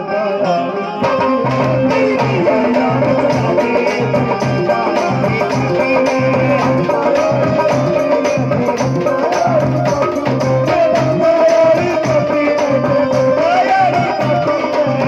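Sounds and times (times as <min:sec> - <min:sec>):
held melody line: 0:00.0 - 0:15.0
barrel drum beating: 0:01.0 - 0:15.0.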